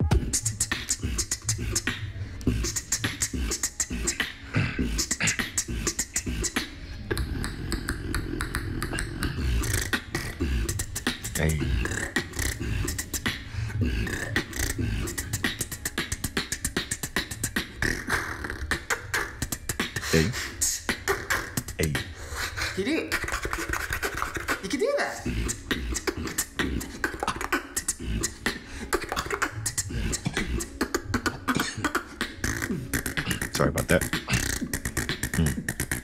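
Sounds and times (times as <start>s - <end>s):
beatboxing clicks and hissing: 0.0s - 36.0s.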